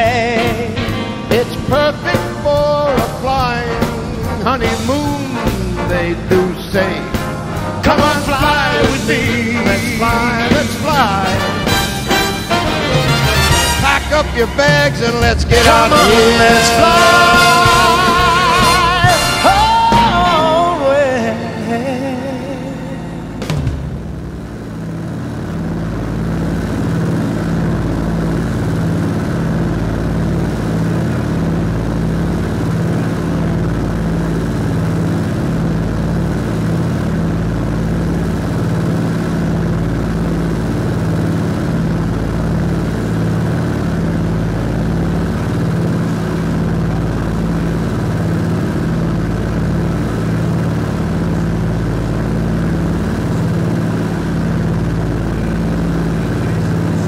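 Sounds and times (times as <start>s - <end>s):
aircraft engines droning in cabin: 0.0s - 57.0s.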